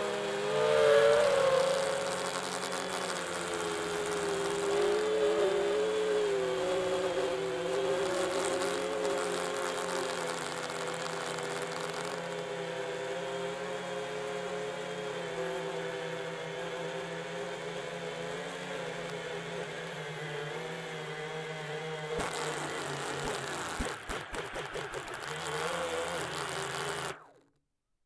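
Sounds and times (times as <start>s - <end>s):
drone motors whining: 0.0s - 12.9s, 14.8s - 27.5s.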